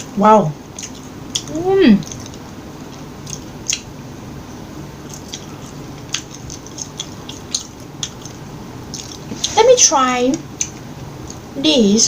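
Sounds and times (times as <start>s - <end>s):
crunching french fries: 0.7s - 4.0s, 4.9s - 11.5s.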